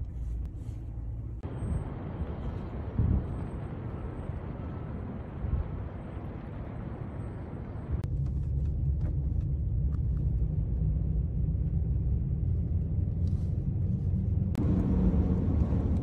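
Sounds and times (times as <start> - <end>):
car driving rumble inside cabin: 0.0 - 16.0.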